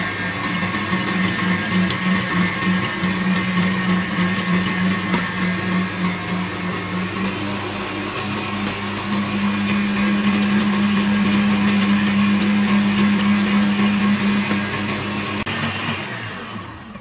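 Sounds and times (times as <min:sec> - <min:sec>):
stand mixer motor hum: 0:00.0 - 0:17.0.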